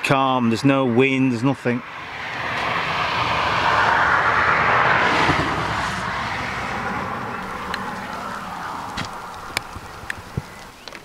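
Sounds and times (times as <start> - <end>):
vehicle passing by: 0.8 - 10.6.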